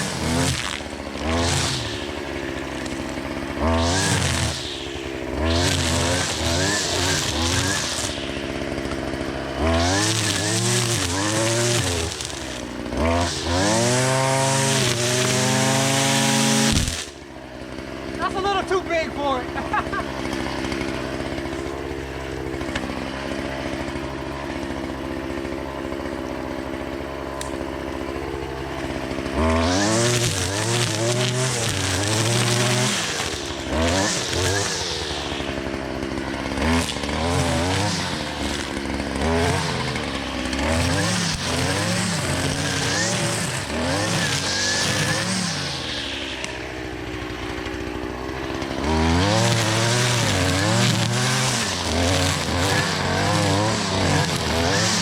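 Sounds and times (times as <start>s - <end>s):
string trimmer engine: 0.0s - 55.0s.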